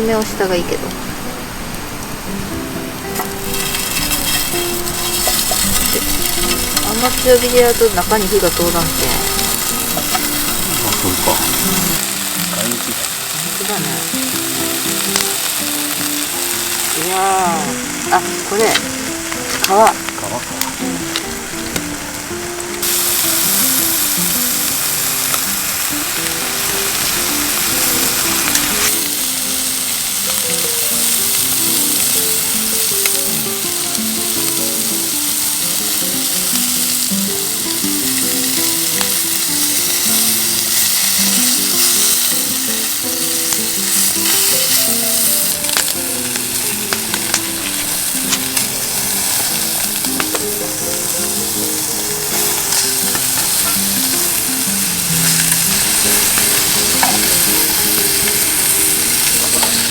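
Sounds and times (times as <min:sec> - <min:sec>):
food sizzling over campfire: 0:00.0 - 0:59.9
gentle background music: 0:00.0 - 0:59.9.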